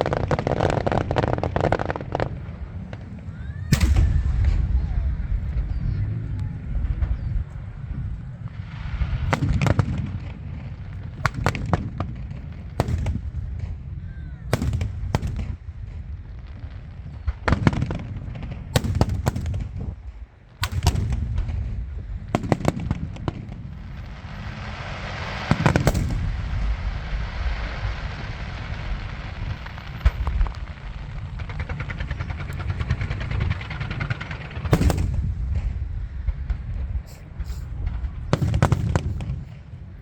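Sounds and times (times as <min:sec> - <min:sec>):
fireworks bursting bangs: 0:00.0 - 0:40.0
fireworks crackling and fizzing: 0:00.0 - 0:40.0
low rumble: 0:02.0 - 0:17.5, 0:18.2 - 0:40.0.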